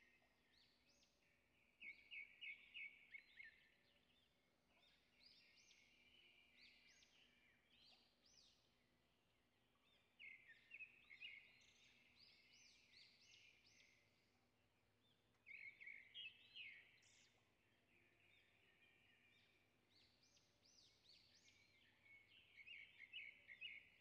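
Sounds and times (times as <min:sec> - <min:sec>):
faint songbirds twittering: 0:00.0 - 0:24.0.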